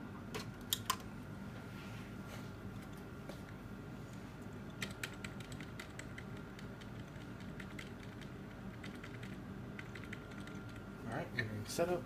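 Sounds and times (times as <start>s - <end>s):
computer humming: 0.0s - 12.0s.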